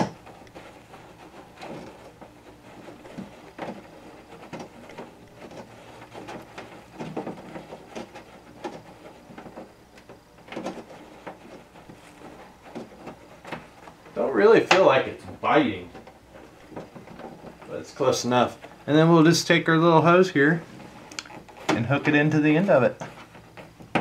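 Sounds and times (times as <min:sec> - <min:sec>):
hand rubbing insulation pad: 0:00.0 - 0:24.0
plastic fastener scraping and clicking: 0:00.0 - 0:24.0.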